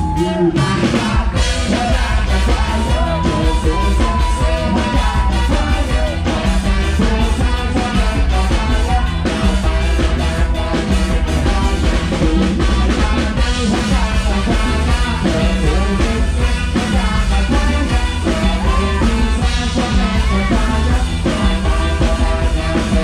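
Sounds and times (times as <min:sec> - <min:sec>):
live band dance music: 0:00.0 - 0:23.0
man singing: 0:00.0 - 0:23.0.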